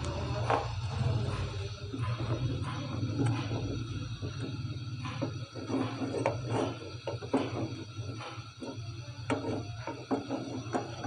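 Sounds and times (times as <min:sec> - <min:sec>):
steady low hum: 0:00.0 - 0:11.0
wooden spoon scraping a steel pot: 0:01.9 - 0:11.0.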